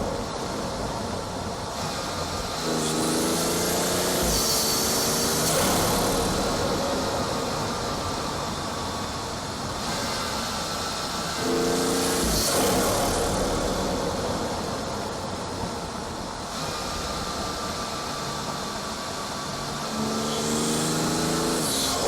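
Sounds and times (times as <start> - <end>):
car engine accelerating: 0.0 - 17.9, 19.3 - 22.0
intake and turbo rush: 0.0 - 22.0.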